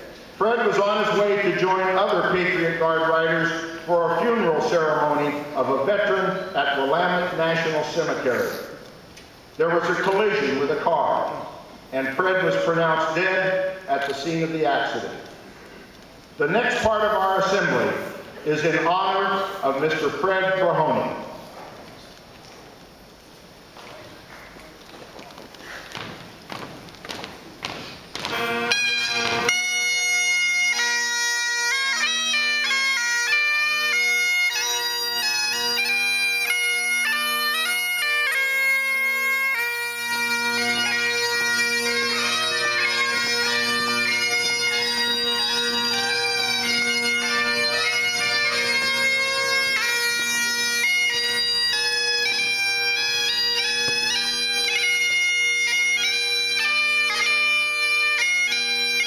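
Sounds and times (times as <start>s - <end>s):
bagpipes playing slow melody: 0.2s - 21.4s, 28.2s - 59.0s.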